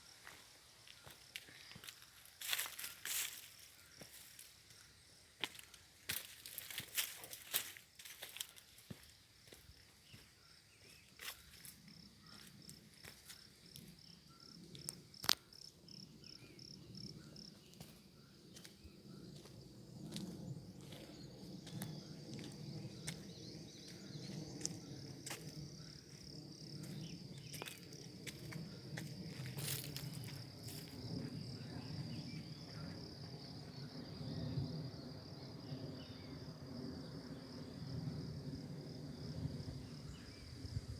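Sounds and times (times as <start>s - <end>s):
cricket trilling: 0.0s - 40.9s.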